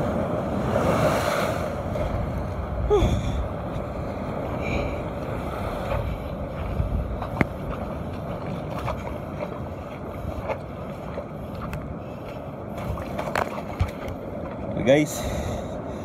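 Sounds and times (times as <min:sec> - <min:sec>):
surf washing over rocks: 0:00.0 - 0:16.0
wind buffeting microphone: 0:00.0 - 0:16.0.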